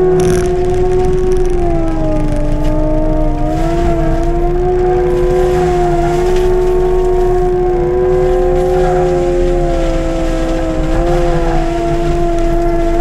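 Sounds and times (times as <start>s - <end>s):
low engine rumble: 0.0s - 13.0s
mulcher loud steady whine: 0.0s - 13.0s.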